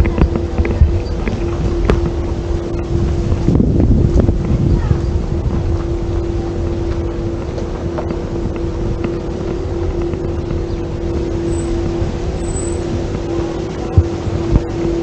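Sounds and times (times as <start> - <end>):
droning hum: 0.0 - 15.0
wind buffeting microphone: 0.0 - 15.0.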